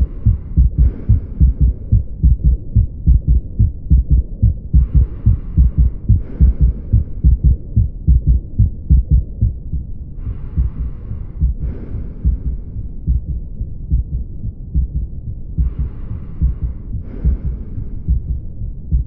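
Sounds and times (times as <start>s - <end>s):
heartbeat: 0.0s - 19.0s.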